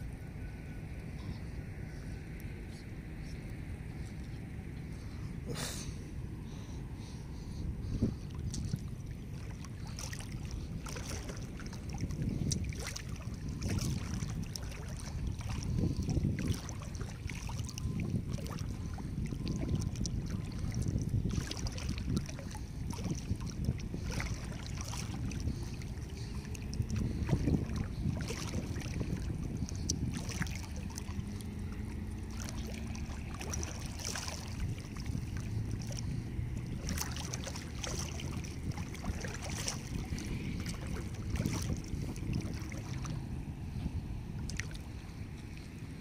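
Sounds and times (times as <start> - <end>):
small sea waves lapping: 0.0 - 46.0
wind rumbling on microphone: 0.0 - 46.0
water splashes: 7.9 - 46.0.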